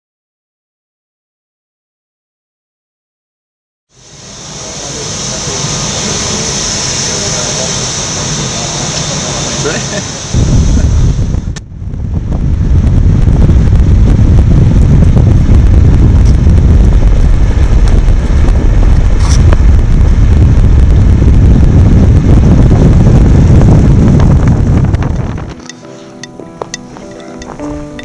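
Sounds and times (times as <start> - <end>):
vehicle driving rumble: 4.2 - 28.0
wind buffeting microphone: 4.7 - 28.0.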